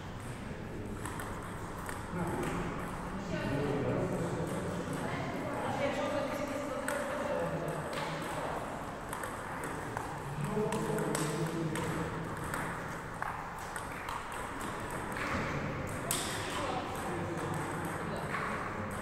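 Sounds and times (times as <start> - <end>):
ping-pong ball clicking on bats: 0.2 - 3.2, 4.0 - 5.6, 6.2 - 19.0.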